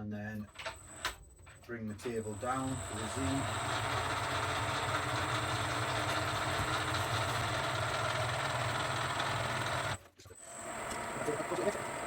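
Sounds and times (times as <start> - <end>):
milling machine feed drive whining: 1.8 - 12.0.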